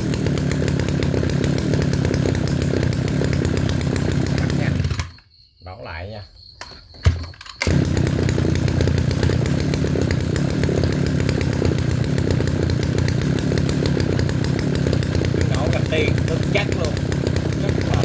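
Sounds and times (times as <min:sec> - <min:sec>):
brush cutter engine running: 0:00.0 - 0:05.2, 0:07.6 - 0:18.0.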